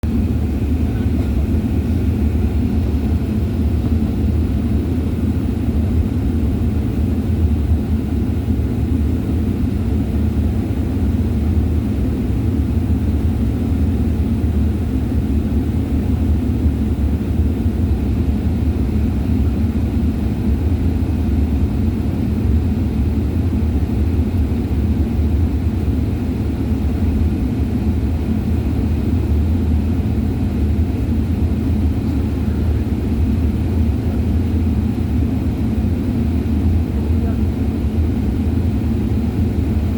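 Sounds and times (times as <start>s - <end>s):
airliner cabin jet engine rumble: 0.0s - 39.9s.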